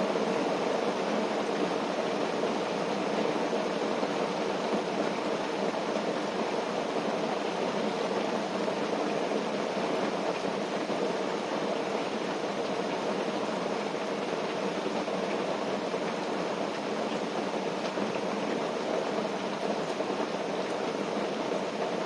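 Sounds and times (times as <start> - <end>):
rain on a tent: 0.0 - 22.0.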